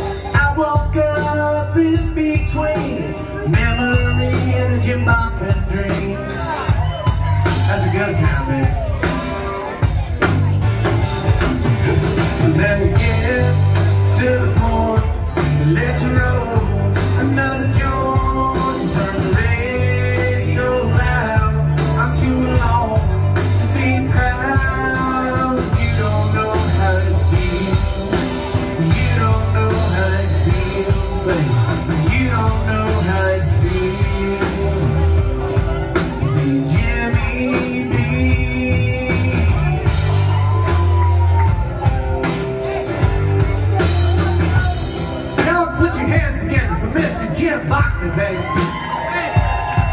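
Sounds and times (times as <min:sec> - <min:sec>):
male lead vocal: 0:00.0 - 0:09.8, 0:11.4 - 0:41.3, 0:43.8 - 0:49.9
rock band playing: 0:00.0 - 0:49.9.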